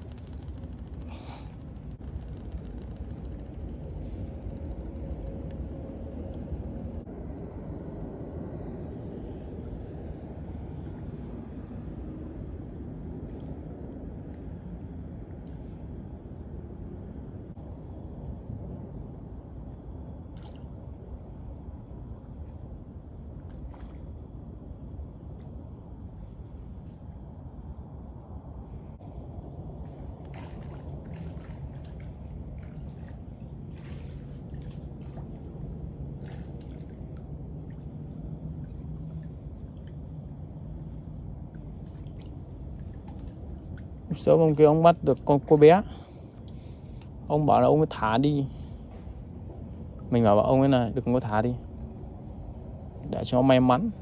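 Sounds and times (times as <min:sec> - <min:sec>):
low rumble: 0:00.0 - 0:44.3
insects trilling: 0:00.0 - 0:54.0.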